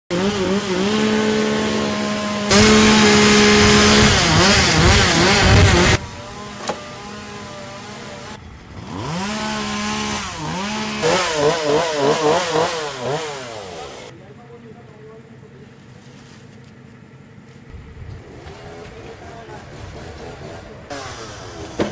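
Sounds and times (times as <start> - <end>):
chainsaw engine running: 0.1 - 14.1, 18.2 - 21.9
chainsaw revving in blips: 0.1 - 14.1, 18.2 - 21.9.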